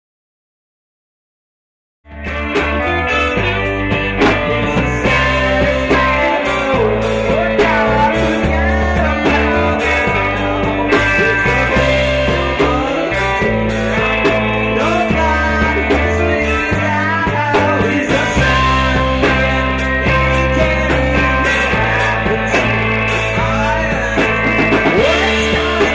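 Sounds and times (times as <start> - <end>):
bass line: 2.1 - 25.9
guitar: 2.1 - 25.9
drum and cymbal hits: 2.3 - 25.9
man singing: 2.6 - 25.9.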